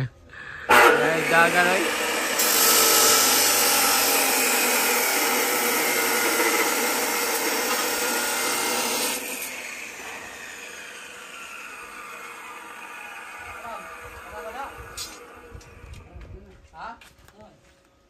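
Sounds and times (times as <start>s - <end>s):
angle grinder grinding steel: 0.4s - 15.8s.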